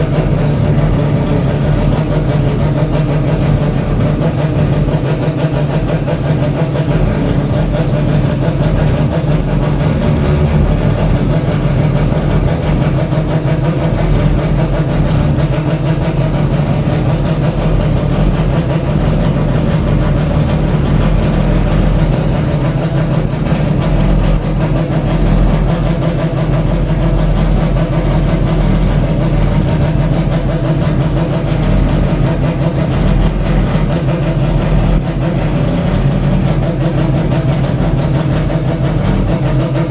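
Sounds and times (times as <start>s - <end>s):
rotary racing engine idling: 0.0s - 39.9s.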